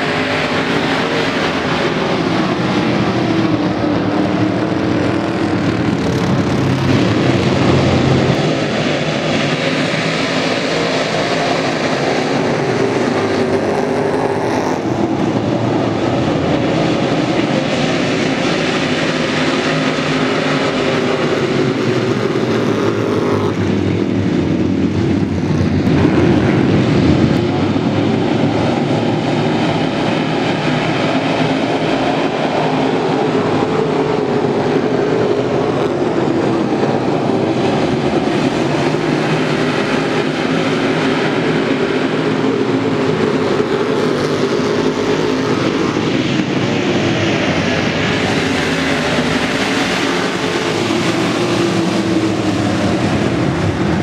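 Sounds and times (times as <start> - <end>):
race car engines droning: 0.0 - 54.0.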